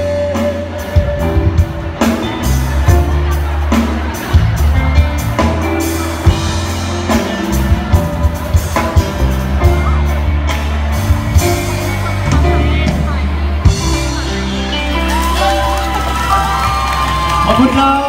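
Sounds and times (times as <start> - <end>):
live band playing loudly: 0.0 - 18.0.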